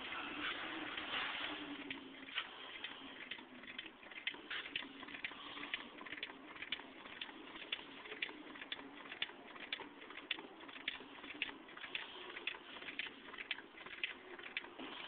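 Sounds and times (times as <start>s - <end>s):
small engine clicking: 0.9s - 15.0s.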